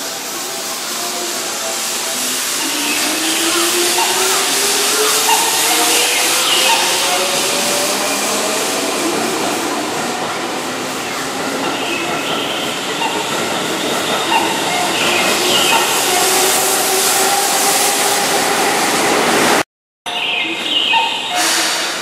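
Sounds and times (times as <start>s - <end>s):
electric train running: 0.0s - 19.6s.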